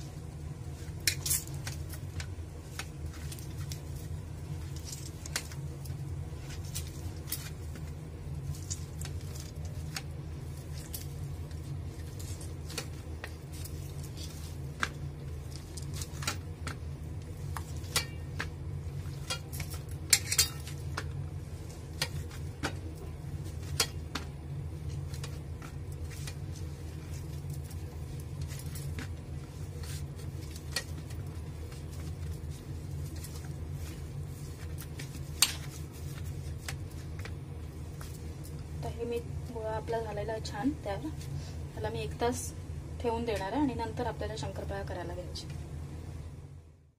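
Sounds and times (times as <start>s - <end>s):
hands kneading dough: 0.0s - 42.5s
steady low hum: 0.0s - 46.9s.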